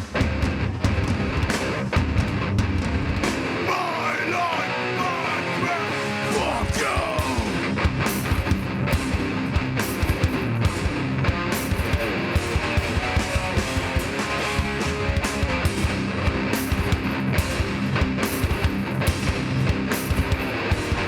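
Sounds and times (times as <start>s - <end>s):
heavy rock band playing: 0.0s - 21.0s
bending guitar notes: 0.2s - 21.0s.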